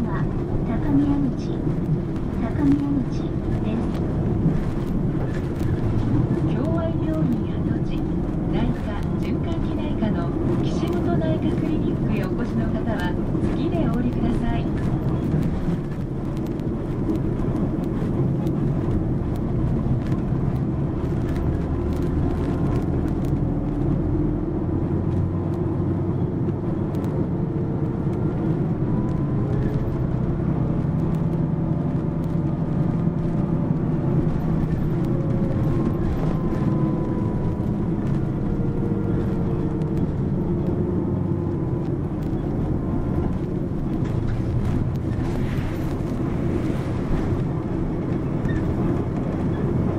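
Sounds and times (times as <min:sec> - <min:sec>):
bus diesel engine whining: 0:00.0 - 0:49.9.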